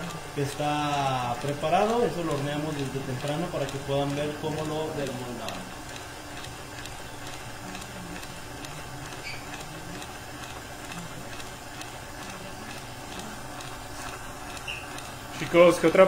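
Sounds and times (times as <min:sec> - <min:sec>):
stand mixer whisking cream: 0:00.0 - 0:16.0.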